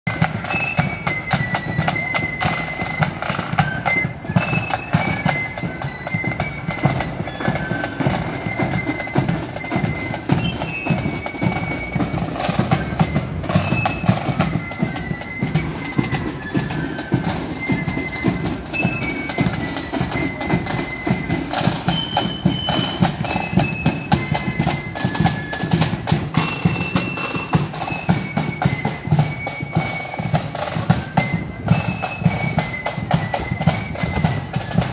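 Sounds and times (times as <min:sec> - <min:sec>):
rolling snare drums: 0:00.0 - 0:34.9
flutes playing a tune: 0:00.1 - 0:34.9.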